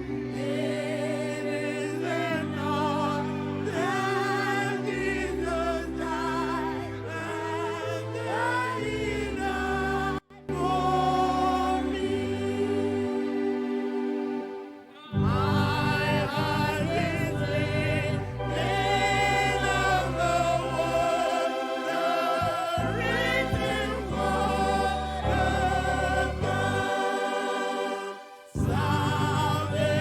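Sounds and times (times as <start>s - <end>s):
choir singing gospel song: 0.0s - 30.0s.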